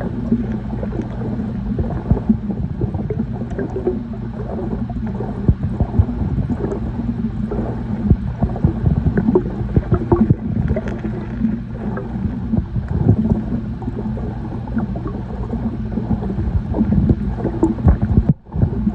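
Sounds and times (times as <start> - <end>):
muffled water gurgling underwater: 0.0 - 18.9
steady low hum: 0.0 - 18.9.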